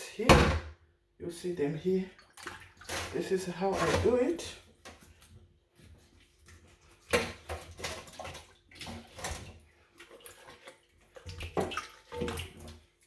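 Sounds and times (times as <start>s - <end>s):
water splashing and sloshing: 1.5s - 13.0s.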